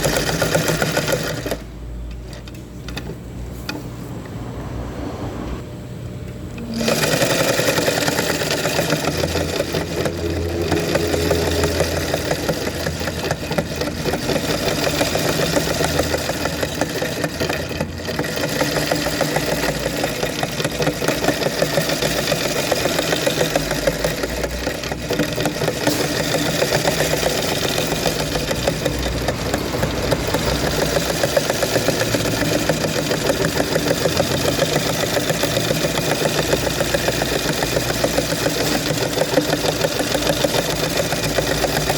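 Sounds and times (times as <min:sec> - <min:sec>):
sewing machine stitching: 0:00.0 - 0:03.8, 0:06.6 - 0:41.9.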